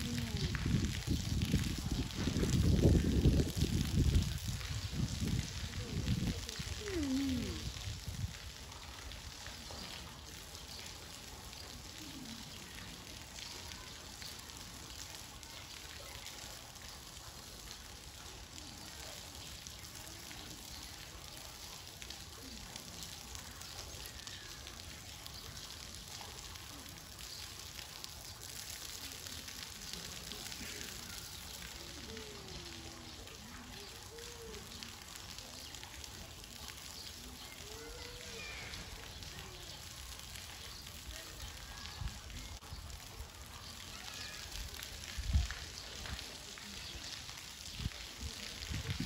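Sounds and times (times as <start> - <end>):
water splashing onto concrete: 0.0 - 49.0.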